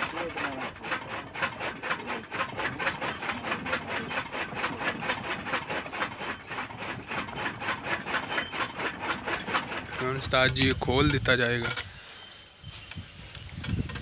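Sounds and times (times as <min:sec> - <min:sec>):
iron gearing clattering: 0:00.0 - 0:12.0.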